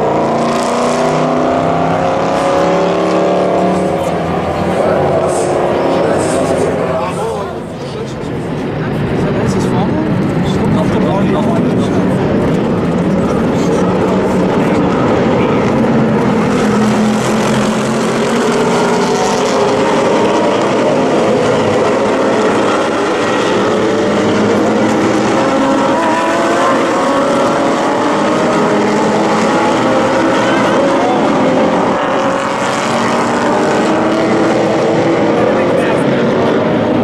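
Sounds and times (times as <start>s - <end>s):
race car engines at high revs: 0.0s - 37.0s.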